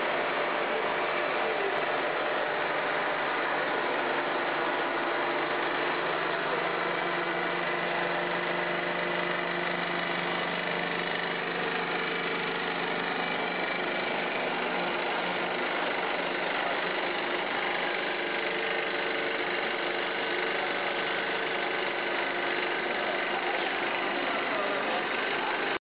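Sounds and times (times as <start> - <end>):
machinery drone: 0.0 - 25.8.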